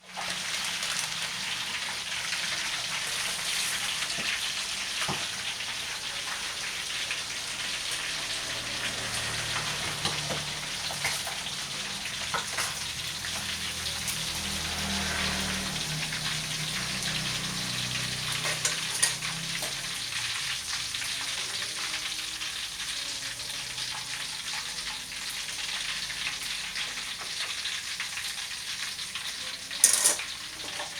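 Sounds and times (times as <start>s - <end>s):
meat sizzling in hot oil: 0.0s - 30.9s.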